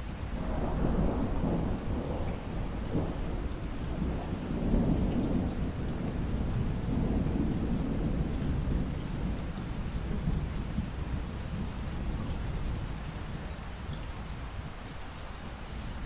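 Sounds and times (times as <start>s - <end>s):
steady rain: 0.0s - 16.0s
thunder rumbling: 0.3s - 13.6s.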